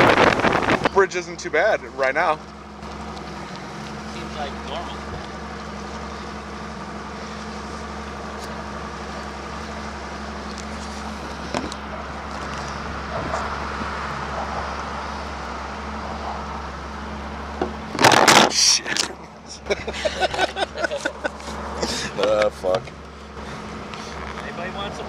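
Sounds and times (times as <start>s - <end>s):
outboard motor running: 0.0s - 14.4s, 17.5s - 25.0s.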